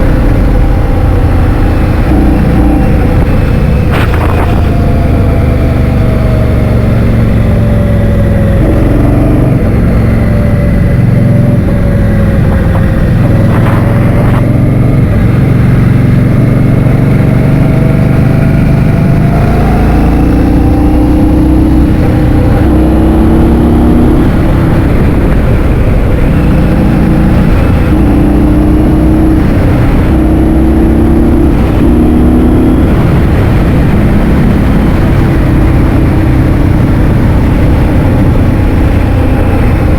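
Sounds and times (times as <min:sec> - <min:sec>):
vehicle engine: 0:00.0 - 0:39.9
wind rumbling on microphone: 0:00.0 - 0:39.9.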